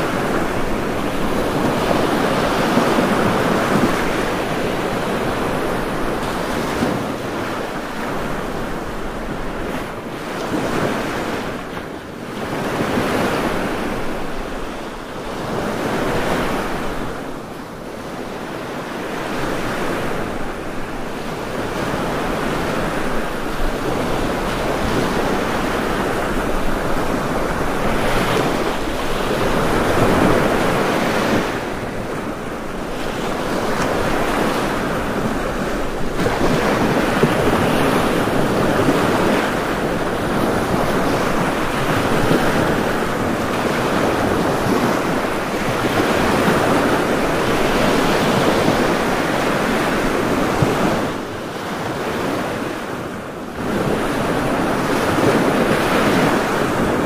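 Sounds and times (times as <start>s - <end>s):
rushing water: 0.0s - 17.5s, 18.3s - 57.0s.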